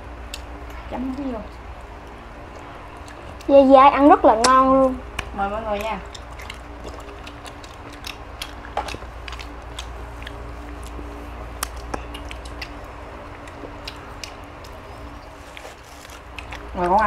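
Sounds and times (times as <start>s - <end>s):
steady low hum: 0.0s - 17.0s
people eating clicks and smacks: 0.2s - 17.0s.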